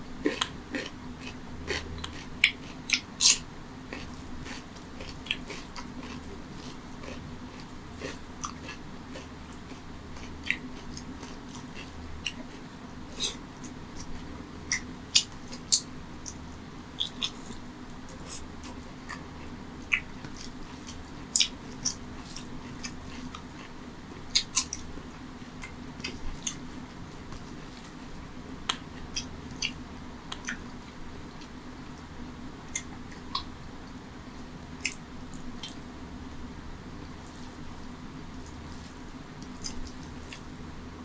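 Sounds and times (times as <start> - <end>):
steady low hum: 0.0 - 41.0
wet chewing and lip smacks: 0.3 - 16.4, 17.0 - 23.7, 24.3 - 24.9, 25.6 - 28.0, 28.6 - 32.1, 32.7 - 33.5, 34.8 - 35.8, 38.4 - 40.5.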